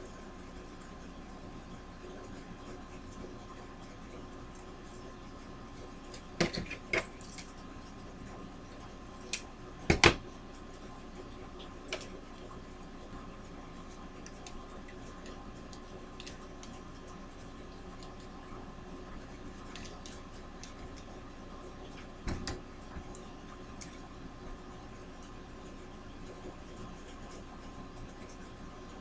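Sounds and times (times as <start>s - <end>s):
steady faint hum: 0.0s - 29.0s.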